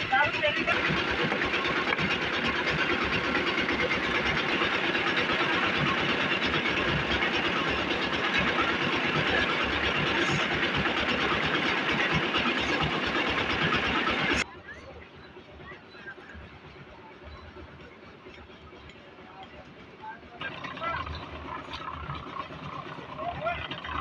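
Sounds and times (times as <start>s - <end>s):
concrete mixer engine running: 0.0s - 24.0s.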